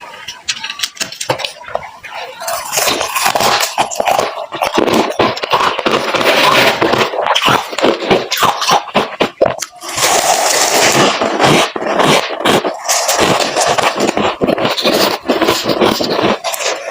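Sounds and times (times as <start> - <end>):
frost being chewed: 0.3 - 16.9.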